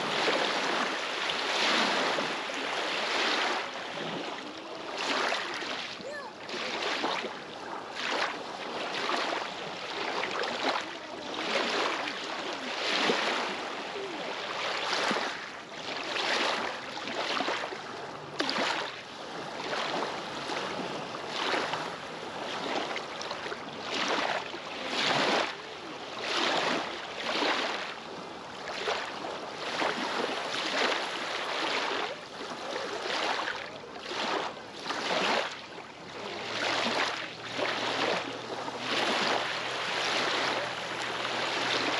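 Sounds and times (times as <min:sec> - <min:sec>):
waves lapping against rocky shore: 0:00.0 - 0:41.9.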